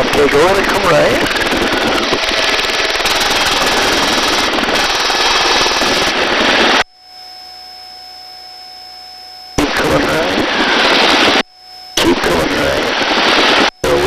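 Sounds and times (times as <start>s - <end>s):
helicopter rotor and engine noise: 0.0s - 8.2s, 9.6s - 14.0s
steady electronic tones: 0.2s - 14.0s.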